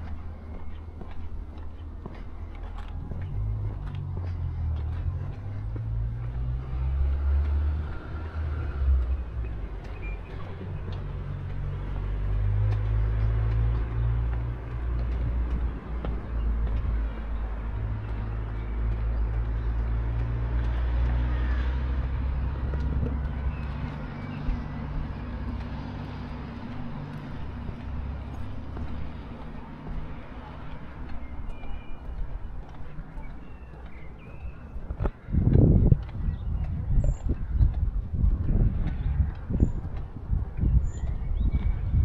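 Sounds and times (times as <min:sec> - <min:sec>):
street noise: 0:00.0 - 0:42.0
vehicle engine rumbling: 0:00.0 - 0:42.0.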